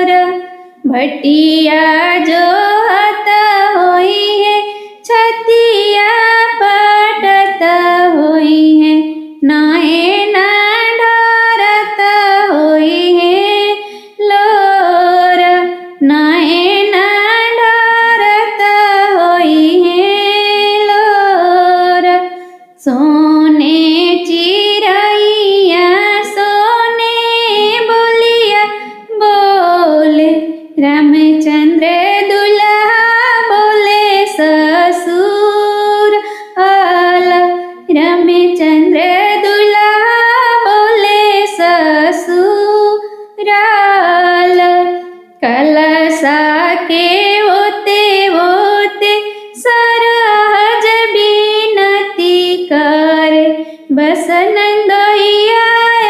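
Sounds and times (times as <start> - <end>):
woman singing folk song: 0.0 - 56.0.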